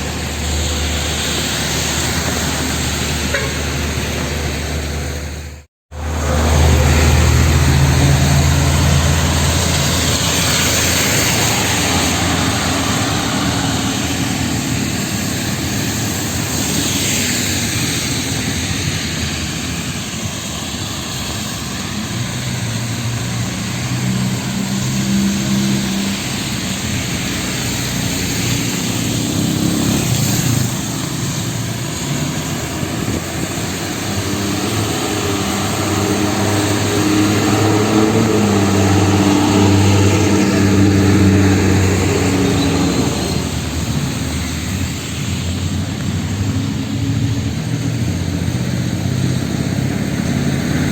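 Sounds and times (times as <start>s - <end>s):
car engines running: 0.0s - 50.9s
steady rain: 0.0s - 50.9s
tyres hissing on wet road: 0.0s - 50.9s.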